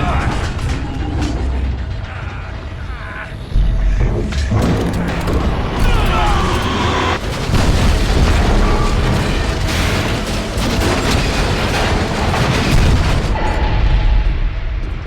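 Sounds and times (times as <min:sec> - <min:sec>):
explosions and deep booms: 0:00.0 - 0:15.0.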